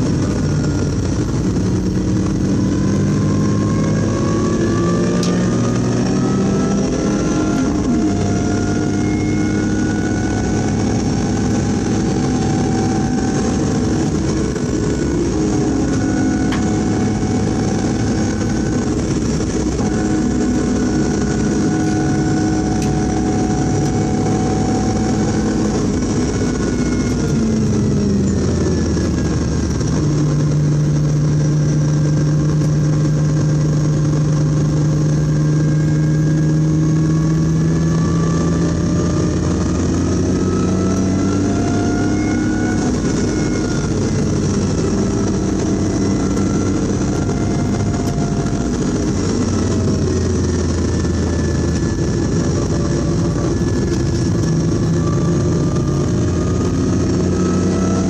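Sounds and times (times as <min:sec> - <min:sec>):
car engine from inside cabin: 0:00.0 - 0:58.0
gear change: 0:00.0 - 0:58.0.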